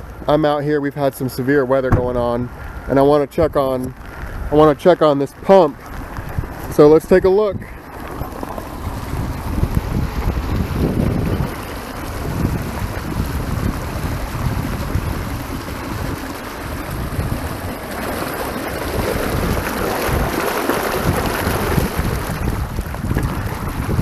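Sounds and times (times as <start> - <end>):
wind buffeting microphone: 1.5 - 24.0
water gushing into a gutter: 3.6 - 24.0.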